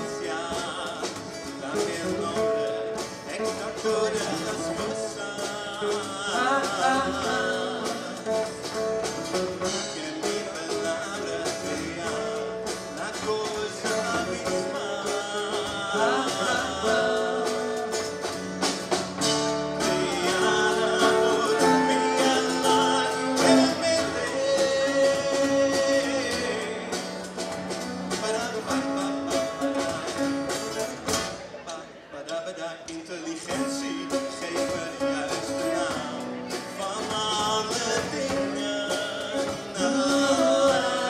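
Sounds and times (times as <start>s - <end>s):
man singing: 0.0s - 41.0s
strummed acoustic guitars: 0.0s - 41.0s.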